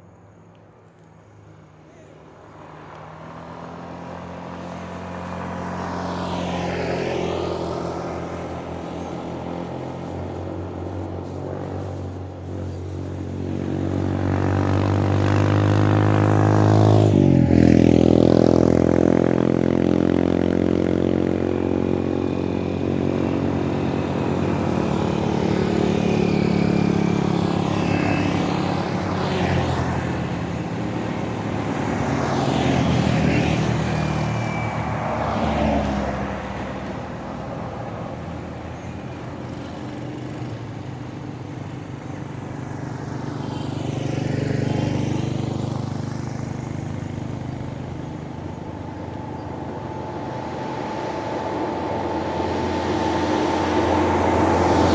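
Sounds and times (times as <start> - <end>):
vehicles driving past: 0.0 - 54.9.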